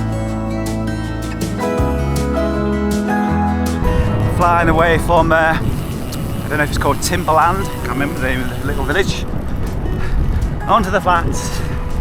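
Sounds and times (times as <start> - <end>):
gentle guitar-led music: 0.0 - 12.0.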